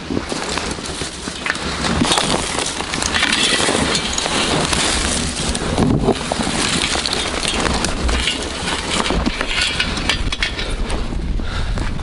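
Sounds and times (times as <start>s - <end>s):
footsteps crunching through snow: 0.0s - 10.1s.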